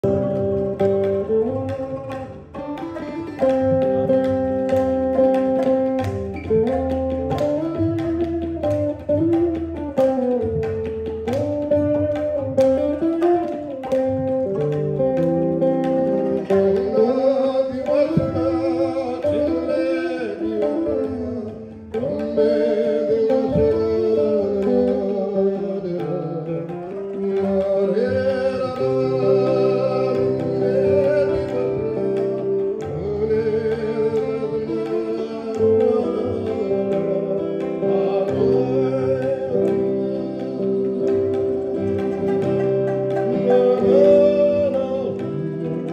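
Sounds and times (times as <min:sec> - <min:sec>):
guitar: 0:00.0 - 0:45.9
tabla: 0:00.0 - 0:45.9.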